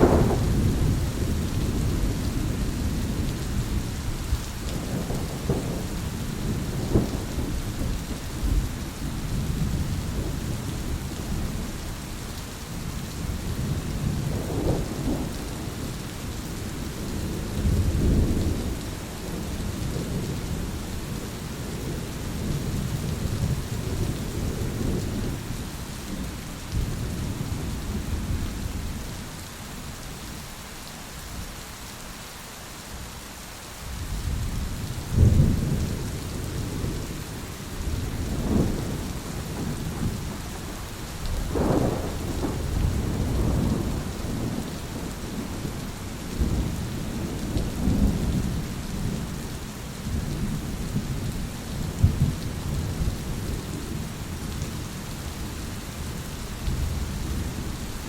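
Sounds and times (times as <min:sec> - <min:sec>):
rolling thunder: 0:00.0 - 0:11.8, 0:13.2 - 0:29.0, 0:34.1 - 0:49.4, 0:50.0 - 0:54.7
steady rain: 0:00.0 - 0:58.0.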